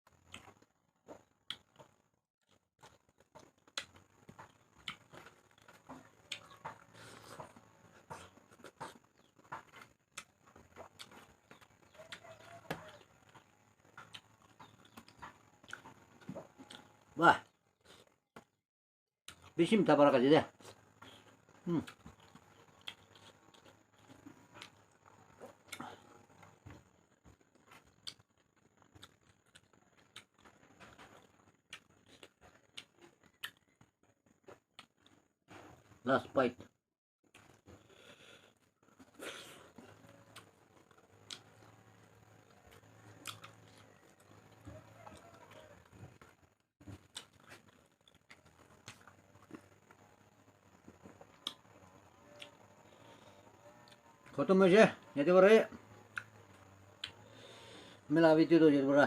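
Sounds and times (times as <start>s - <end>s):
person chewing with open mouth: 0.2s - 2.0s, 2.8s - 17.0s, 20.6s - 33.9s, 37.3s - 54.4s, 55.9s - 58.1s.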